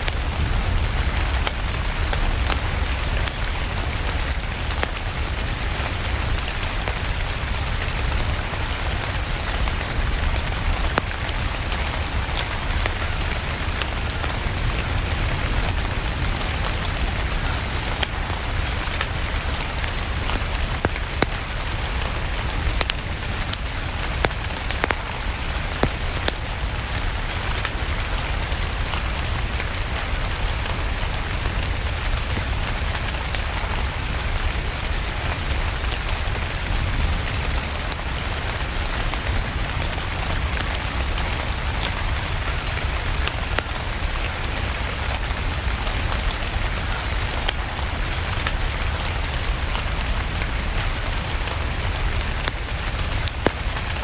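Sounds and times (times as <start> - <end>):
steady rain falling: 0.0 - 54.0
wood fire crackling: 0.0 - 54.0.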